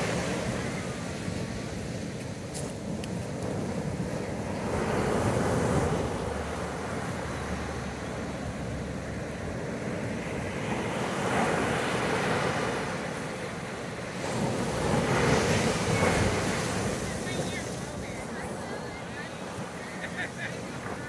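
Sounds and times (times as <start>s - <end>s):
ocean surf washing up beach: 0.0s - 21.0s.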